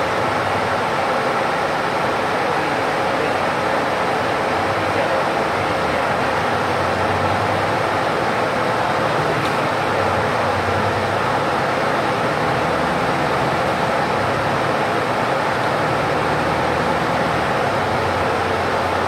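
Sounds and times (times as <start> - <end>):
bus engine drone: 0.0 - 19.0
road and tyre noise: 0.0 - 19.0.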